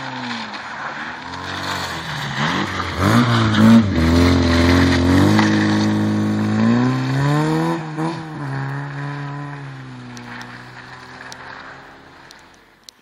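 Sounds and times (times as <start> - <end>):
car engine revving hard: 1.2 - 12.3.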